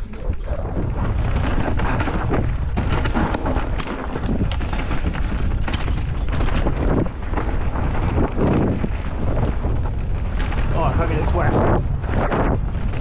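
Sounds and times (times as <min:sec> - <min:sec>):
bike clicks and knocks: 0:00.0 - 0:10.7
tyres rumbling over dirt: 0:00.0 - 0:13.0
wind buffeting microphone: 0:00.0 - 0:13.0.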